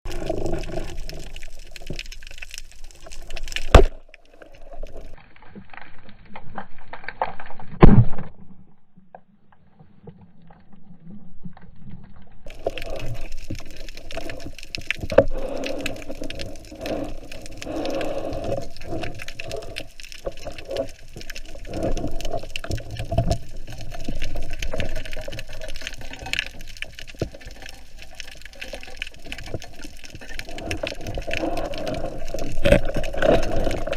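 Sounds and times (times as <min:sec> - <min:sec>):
water sloshing and bubbling: 0:00.0 - 0:33.9.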